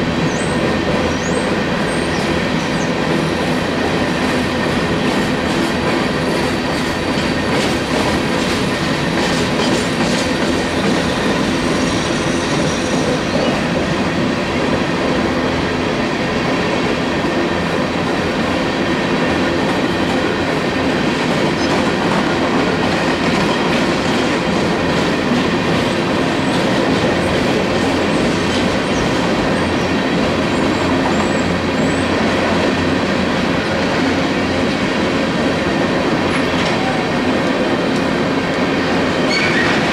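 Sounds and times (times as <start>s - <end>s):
freight cars rumbling on rails: 0.0s - 39.9s.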